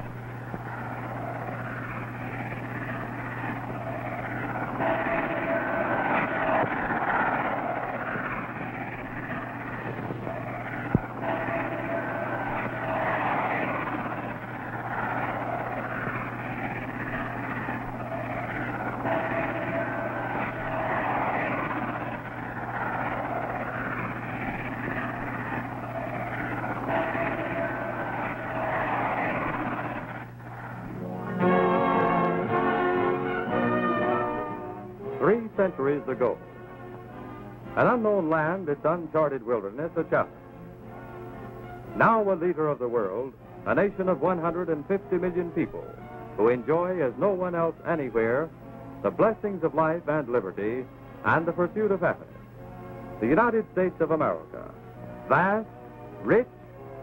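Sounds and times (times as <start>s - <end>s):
train rumbling past: 0.0s - 56.2s
steady low hum: 0.0s - 57.0s.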